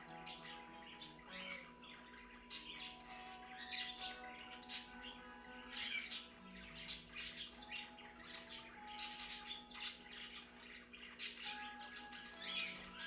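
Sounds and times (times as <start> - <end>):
lovebirds chirping and squawking: 0.0 - 13.0.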